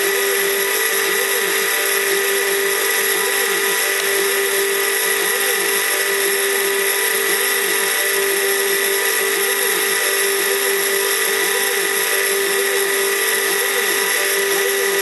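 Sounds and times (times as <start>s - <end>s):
spindle motor high whine: 0.0s - 15.0s.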